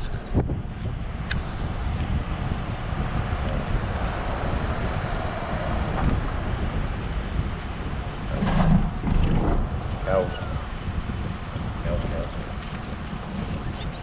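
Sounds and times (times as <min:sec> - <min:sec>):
truck engine and road rumble: 0:00.0 - 0:14.0
wind noise on microphone: 0:00.0 - 0:14.0.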